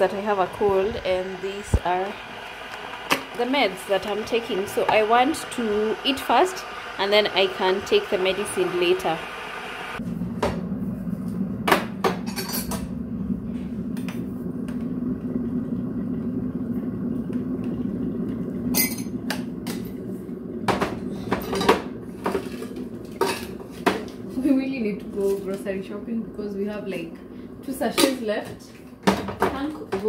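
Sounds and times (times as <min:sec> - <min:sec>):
electric kettle rumble: 0:00.0 - 0:30.0.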